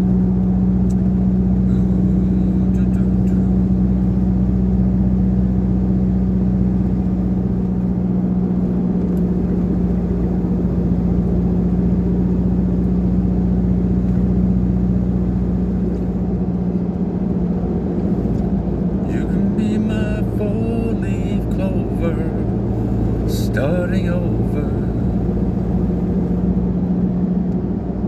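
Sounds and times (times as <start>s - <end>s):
car engine droning: 0.0s - 28.0s
road rumble: 0.0s - 28.0s.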